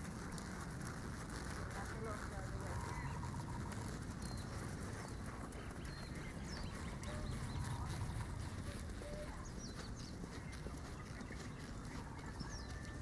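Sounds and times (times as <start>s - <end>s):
birds chirping: 1.9s - 13.0s.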